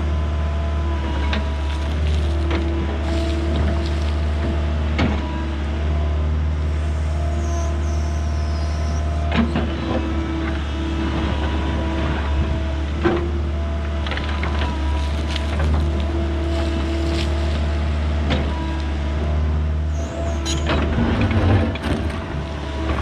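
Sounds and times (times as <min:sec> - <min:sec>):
excavator engine droning: 0:00.0 - 0:23.0.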